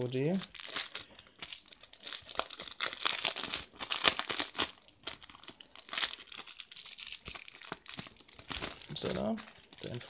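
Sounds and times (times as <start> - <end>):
shrink-wrap crinkling and tearing: 0.0 - 10.0.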